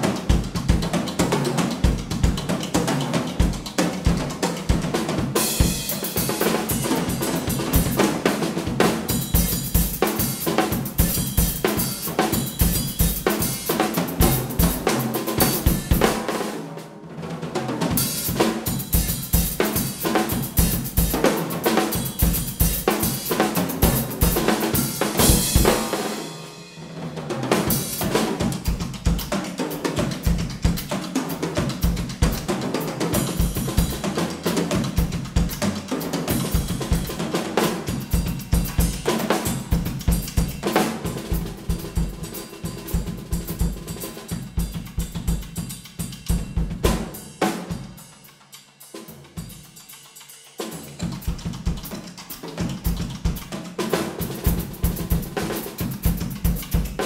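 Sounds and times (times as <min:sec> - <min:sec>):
drum kits playing: 0:00.0 - 0:57.0.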